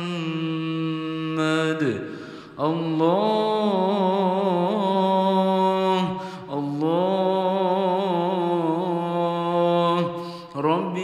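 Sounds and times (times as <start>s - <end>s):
person chanting melodically: 0.0s - 11.0s.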